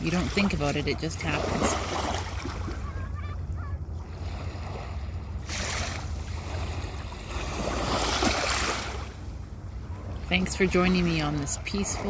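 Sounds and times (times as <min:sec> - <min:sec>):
low rumble of surf: 0:00.0 - 0:12.0
ocean waves washing onto shore: 0:00.0 - 0:12.0.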